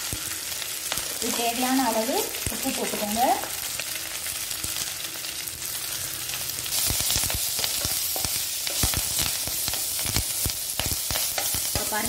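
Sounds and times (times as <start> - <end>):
leaves sizzling in a pan: 0.0 - 12.0.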